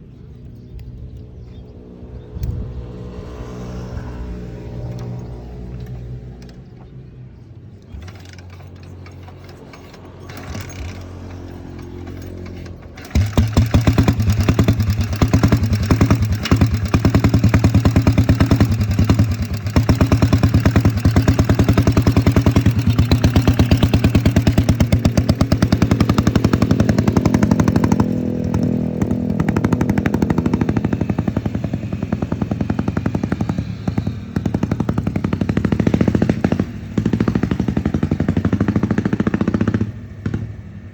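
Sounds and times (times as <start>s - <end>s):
motorcycle engine running: 7.9s - 40.9s.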